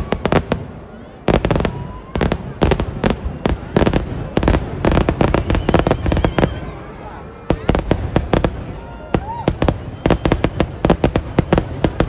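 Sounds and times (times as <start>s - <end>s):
firecracker bangs: 0.0s - 6.7s, 7.4s - 12.0s.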